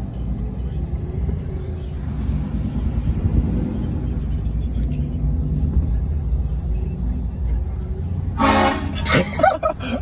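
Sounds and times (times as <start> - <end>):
truck engine and road rumble: 0.0 - 10.0.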